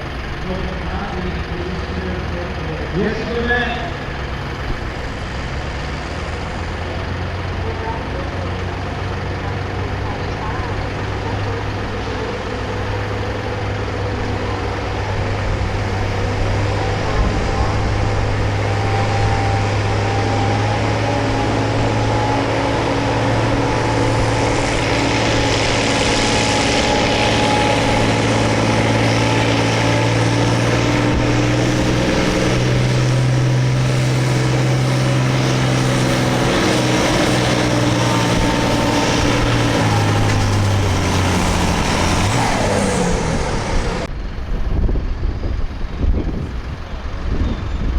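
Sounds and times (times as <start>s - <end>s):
tractor engine under load: 0.0s - 47.9s.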